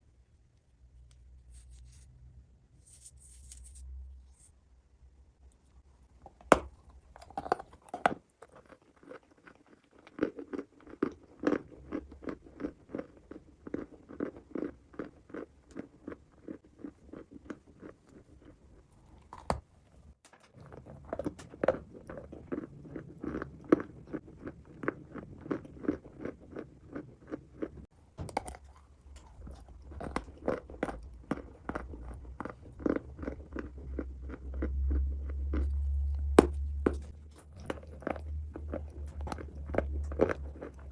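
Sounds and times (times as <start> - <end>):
chewing dry crunches: 6.1 - 19.7, 20.5 - 40.9.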